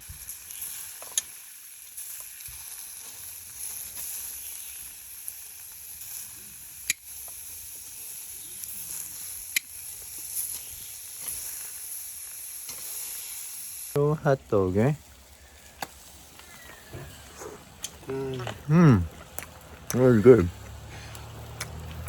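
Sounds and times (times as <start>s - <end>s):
hot dogs sizzling: 0.0s - 22.0s.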